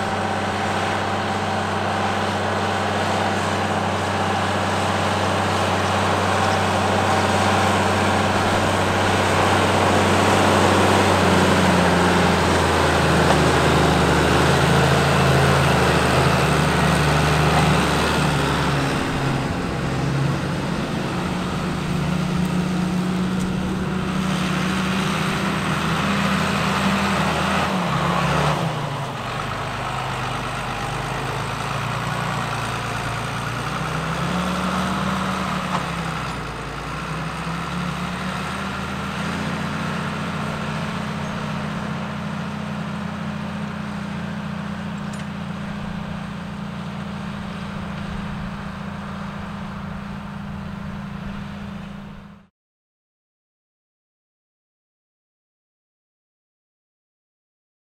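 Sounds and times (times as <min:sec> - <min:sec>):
tractor diesel engine under load: 0:00.0 - 0:52.5.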